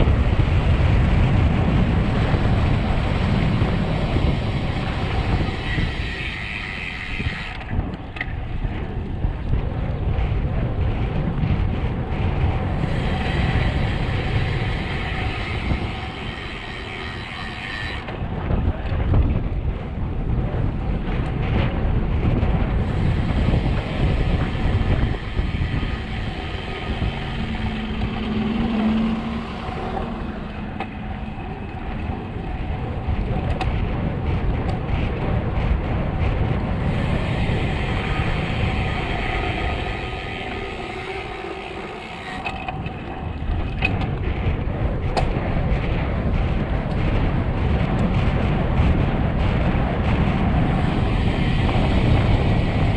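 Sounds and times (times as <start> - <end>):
bike tyre noise on road: 0.0 - 52.9
wind rushing over microphone: 0.0 - 52.9.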